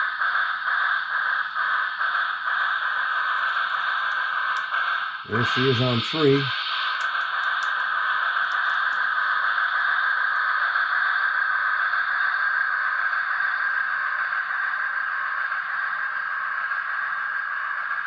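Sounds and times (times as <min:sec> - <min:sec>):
hissing steam sound: 0:00.0 - 0:18.0.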